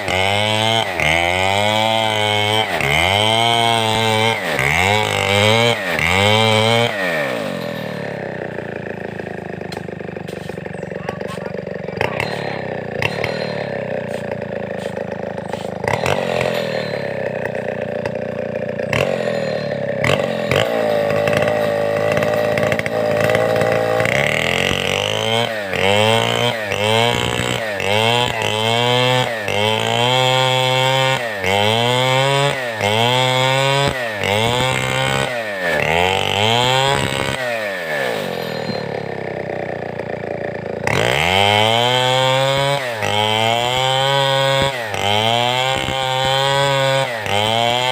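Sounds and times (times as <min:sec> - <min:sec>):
chainsaw cutting timber: 0:00.0 - 0:47.9.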